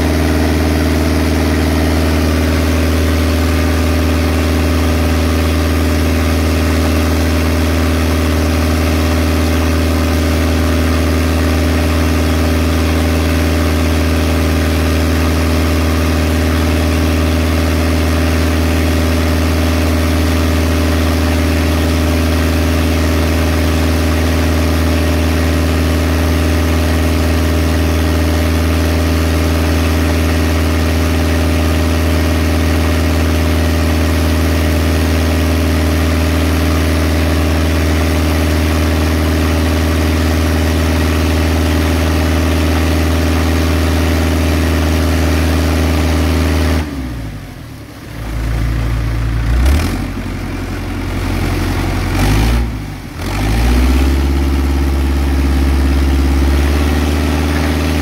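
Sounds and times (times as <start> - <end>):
water pump engine running: 0.0 - 58.0.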